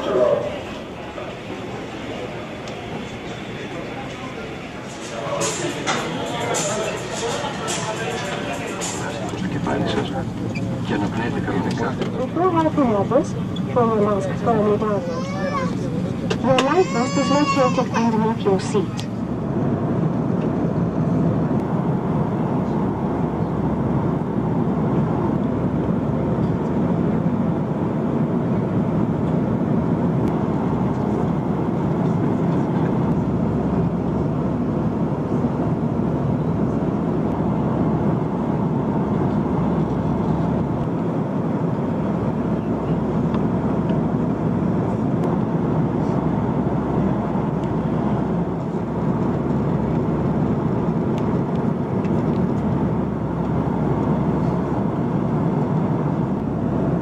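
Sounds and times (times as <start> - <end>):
jet engines roaring in cabin: 0.0 - 57.0.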